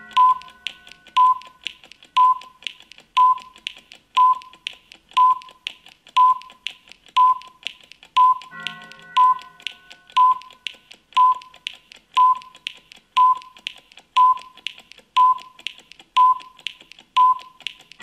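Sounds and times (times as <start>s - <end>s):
timer ticking with ringing tone: 0.0s - 18.0s.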